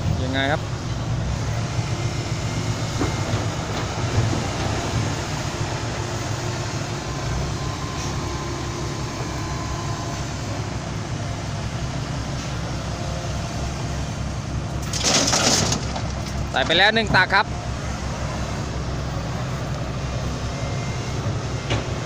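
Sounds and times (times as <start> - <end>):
heavy diesel engines running: 0.0 - 22.0.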